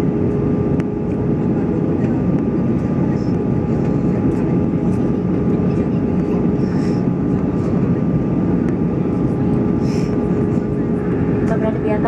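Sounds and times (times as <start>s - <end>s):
airplane cabin roar: 0.0s - 12.0s.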